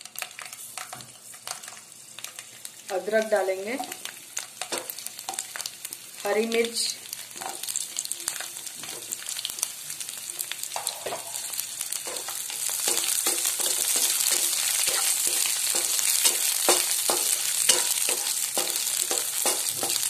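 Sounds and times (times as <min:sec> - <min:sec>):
sizzling in hot oil: 0:00.0 - 0:20.0.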